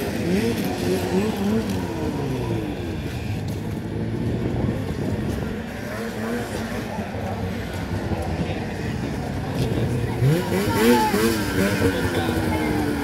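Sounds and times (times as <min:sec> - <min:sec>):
snowmobile engines revving: 0:00.0 - 0:13.0.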